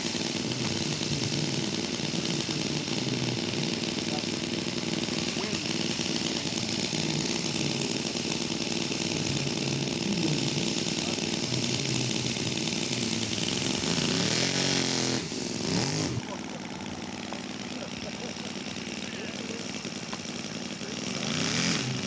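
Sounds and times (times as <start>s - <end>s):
model airplane engine running: 0.0s - 22.0s.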